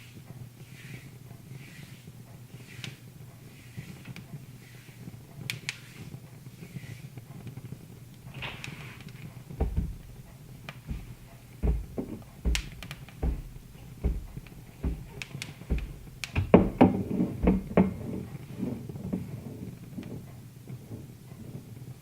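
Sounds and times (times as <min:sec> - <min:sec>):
wood fire crackling and popping: 0:02.3 - 0:22.0.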